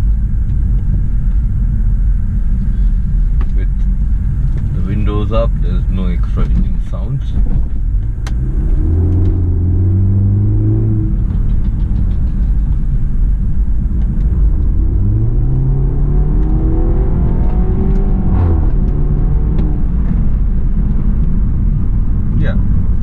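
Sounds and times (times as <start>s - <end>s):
car engine accelerating: 0.0s - 23.0s
road rumble: 0.0s - 23.0s.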